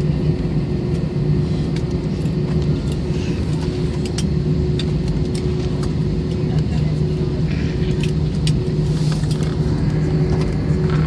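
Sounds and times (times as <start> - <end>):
engine hum: 0.0 - 11.0
plane cabin low rumble: 0.0 - 11.0.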